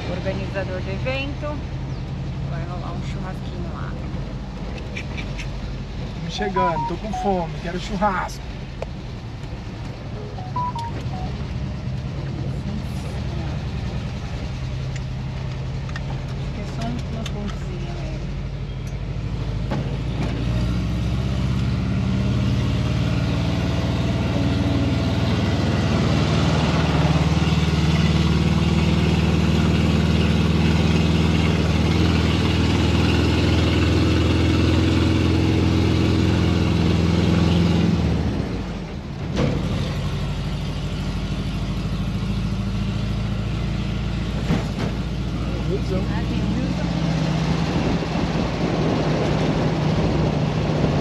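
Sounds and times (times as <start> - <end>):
road and wind noise: 0.0 - 51.0
van engine running: 0.0 - 51.0.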